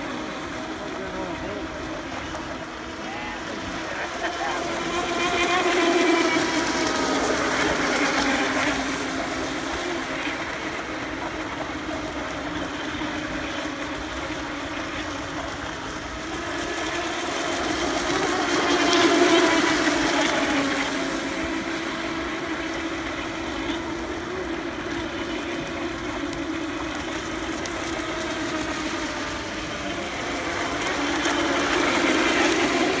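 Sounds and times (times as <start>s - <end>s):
rc speedboat motors whining: 0.0s - 33.0s.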